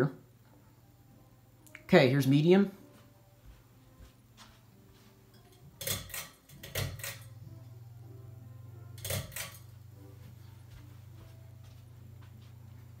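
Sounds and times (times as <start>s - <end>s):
ceiling fan motor humming: 0.0s - 13.0s.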